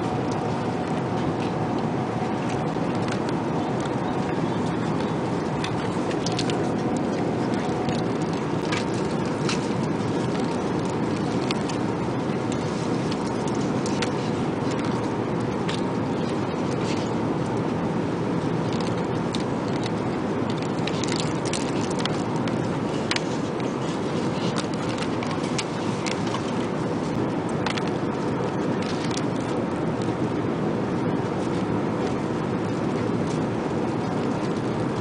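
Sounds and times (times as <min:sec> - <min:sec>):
airplane cabin noise: 0:00.0 - 0:35.0.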